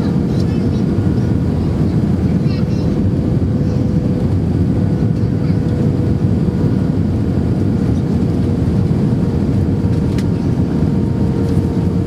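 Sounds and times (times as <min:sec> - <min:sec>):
airliner cabin rumble: 0:00.0 - 0:12.0
steady hum: 0:00.0 - 0:12.0.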